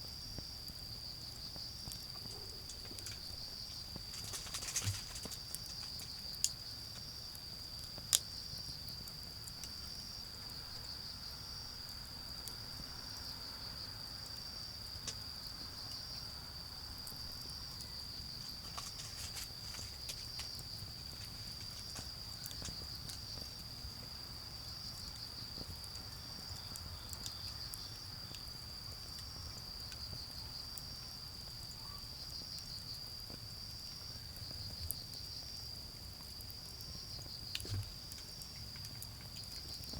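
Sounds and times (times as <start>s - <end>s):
charcoal fire popping and crackling: 0.0s - 39.9s
insect chirping: 0.0s - 39.9s
insect shrill continuous trill: 0.0s - 39.9s.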